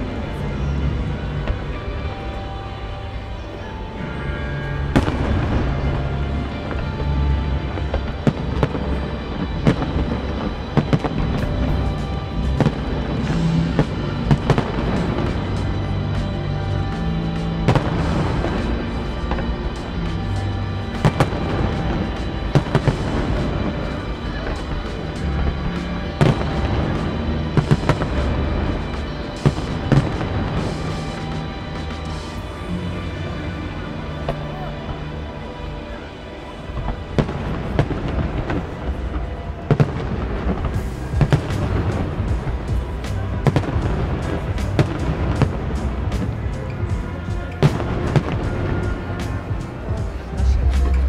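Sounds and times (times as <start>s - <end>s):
fireworks bursting with sharp bangs: 0.0s - 51.0s
music playing: 0.0s - 51.0s.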